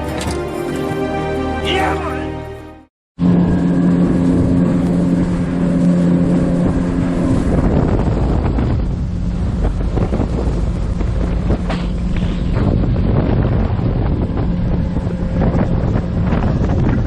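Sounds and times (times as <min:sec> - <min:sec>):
motorboat engine droning: 0:03.2 - 0:17.0
wind buffeting microphone: 0:03.2 - 0:17.0.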